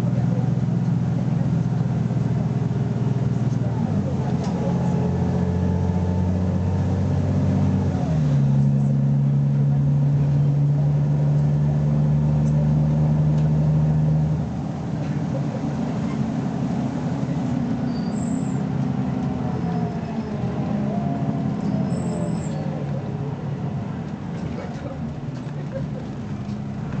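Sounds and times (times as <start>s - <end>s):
bus engine pulling under load: 0.0s - 27.0s.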